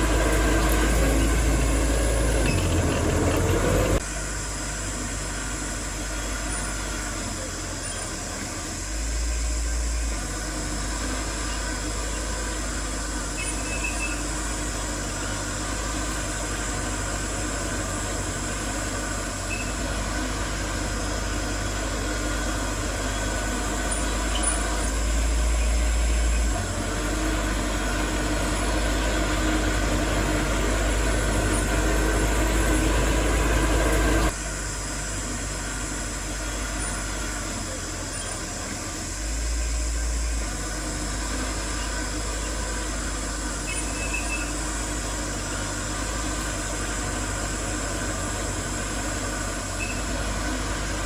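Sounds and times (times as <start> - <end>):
diesel machinery engine rumble: 0.0 - 51.0.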